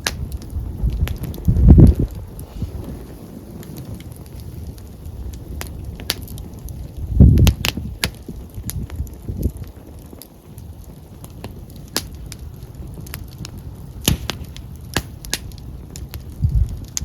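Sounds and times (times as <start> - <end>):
campfire crackling and popping: 0.0 - 17.0
wind on the microphone: 0.0 - 17.0.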